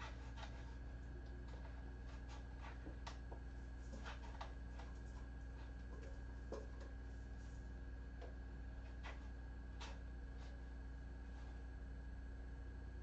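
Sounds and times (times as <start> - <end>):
kittens scratching on carpet: 0.0 - 11.7
low electrical hum: 0.0 - 13.0.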